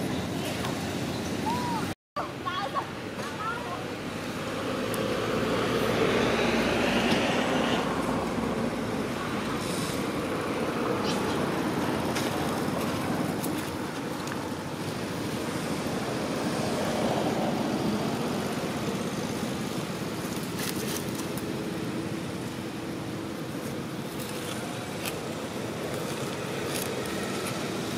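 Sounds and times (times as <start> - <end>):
rushing outdoor background noise: 0.0 - 27.9.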